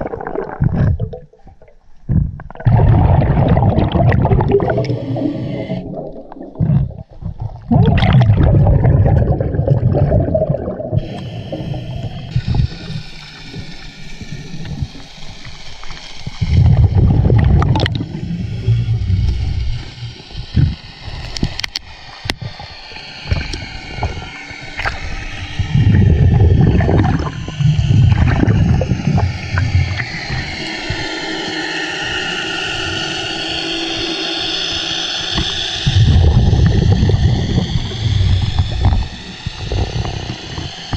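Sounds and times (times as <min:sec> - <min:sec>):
underwater bubbles rumbling: 0:00.0 - 0:34.1, 0:35.3 - 0:40.9.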